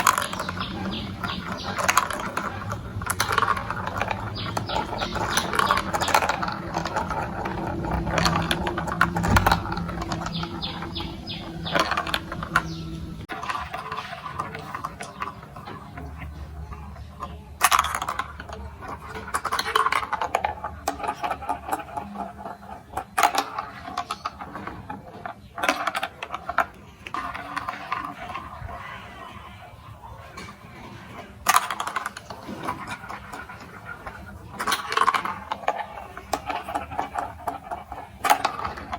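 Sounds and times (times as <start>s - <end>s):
plastic blocks clicking and clacking: 0.0s - 38.9s.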